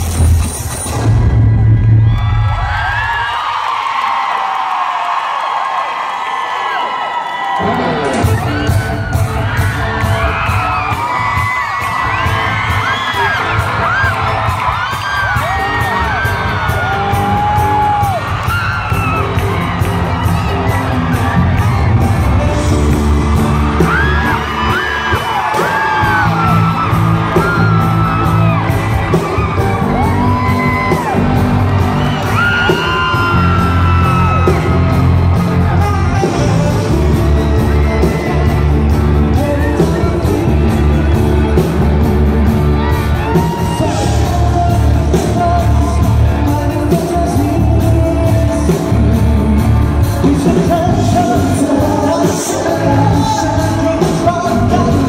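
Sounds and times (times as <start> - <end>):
live pop band music: 0.0 - 3.5, 6.7 - 55.0
audience yelling and whooping: 0.0 - 55.0
singers on microphones: 7.6 - 55.0.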